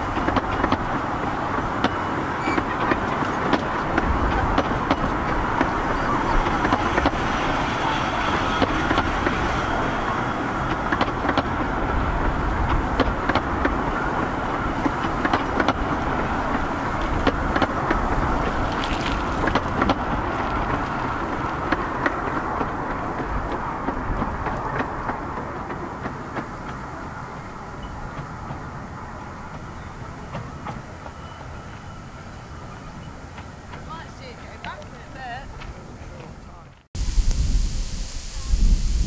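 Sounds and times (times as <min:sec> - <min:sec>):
wheels clicking over rail joints: 0:00.0 - 0:36.9
wheels rumbling on track: 0:00.0 - 0:39.0.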